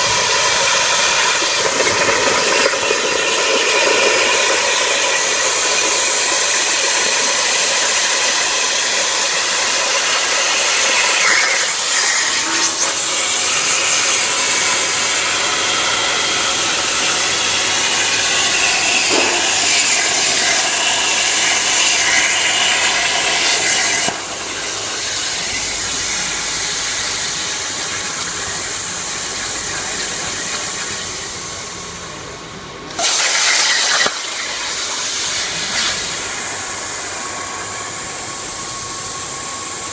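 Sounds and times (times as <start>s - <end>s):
plasma torch cutting hiss: 0.0s - 31.8s, 32.9s - 39.9s.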